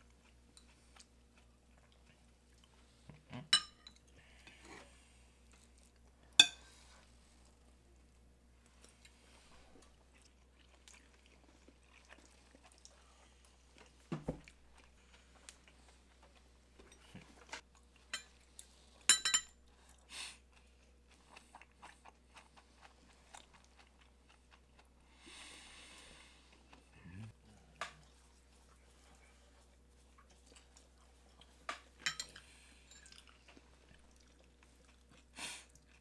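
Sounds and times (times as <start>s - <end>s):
chewing: 0.0s - 6.4s, 8.6s - 25.2s, 26.0s - 36.0s.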